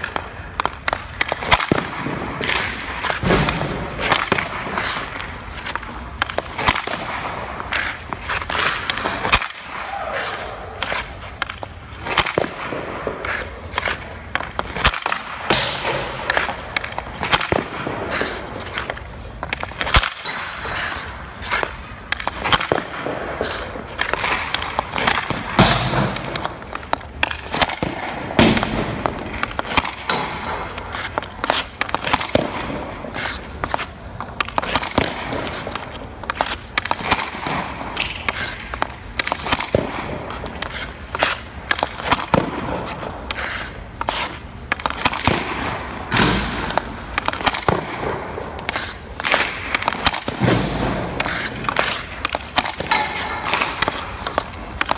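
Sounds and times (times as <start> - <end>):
hockey sticks hitting pucks: 0.0 - 54.9
pucks smacking goalie pads: 0.0 - 54.9.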